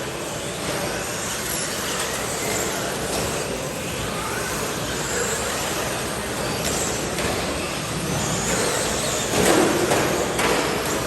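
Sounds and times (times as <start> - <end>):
faint motor whines: 0.0 - 11.0
rc truck motor and tyre noise: 0.0 - 11.0.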